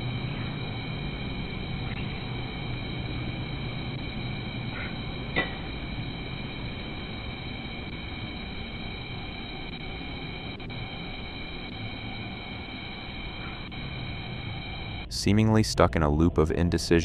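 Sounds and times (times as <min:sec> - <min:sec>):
background hiss: 0:00.0 - 0:17.0
faint high-pitched whine: 0:00.0 - 0:17.0.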